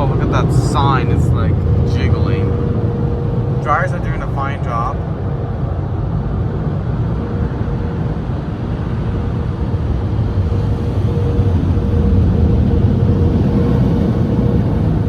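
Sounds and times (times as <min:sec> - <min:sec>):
car wash dryer blowers: 0:00.0 - 0:15.0
faint steady hum: 0:00.0 - 0:15.0.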